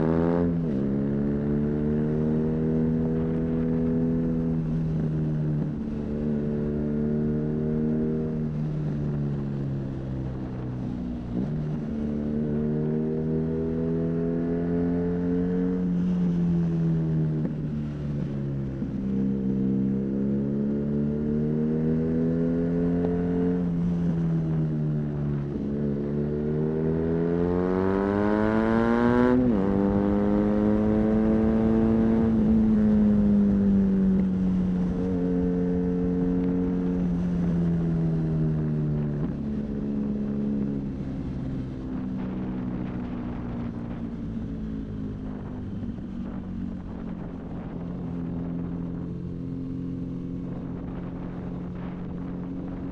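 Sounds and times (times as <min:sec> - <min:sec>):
motorcycle engine accelerating: 0:00.0 - 0:52.9
wind and road noise: 0:00.0 - 0:52.9.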